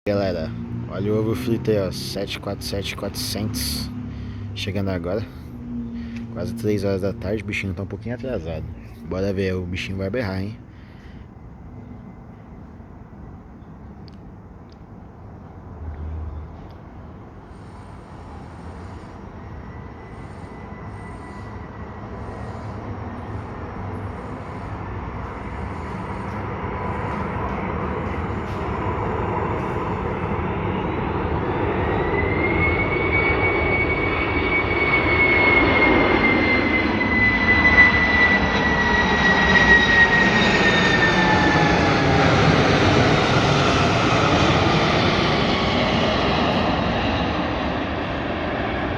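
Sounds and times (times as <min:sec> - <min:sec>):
high engine whine: 0:00.1 - 0:48.9
jet engines roaring: 0:00.1 - 0:48.9.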